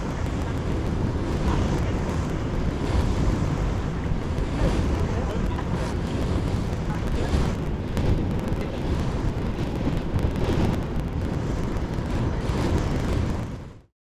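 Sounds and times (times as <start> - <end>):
sea surf: 0.0 - 13.8
wind buffeting microphone: 0.0 - 13.9.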